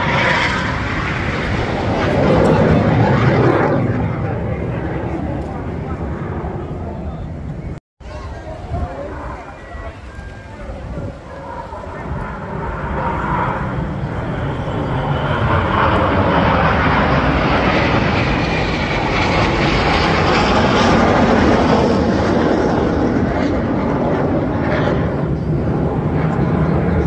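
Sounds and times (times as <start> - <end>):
aircraft engine roar: 0.0 - 27.0.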